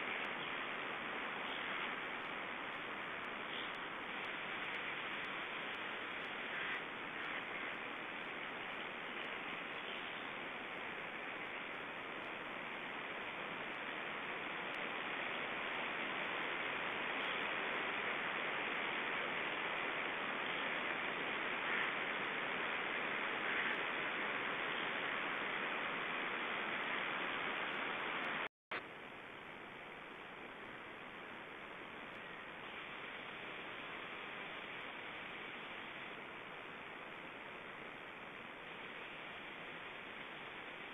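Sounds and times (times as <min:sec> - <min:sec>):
microphone static hiss: 0:00.0 - 0:40.9.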